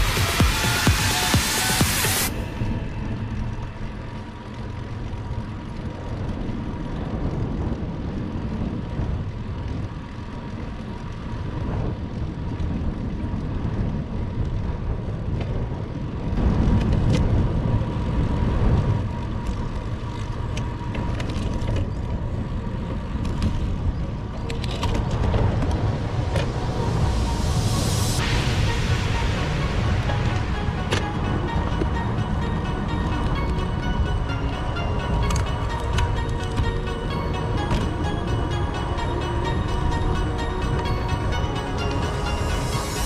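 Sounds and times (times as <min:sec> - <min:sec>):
road noise: 0:00.0 - 0:43.0
wind rumbling on microphone: 0:00.0 - 0:43.0.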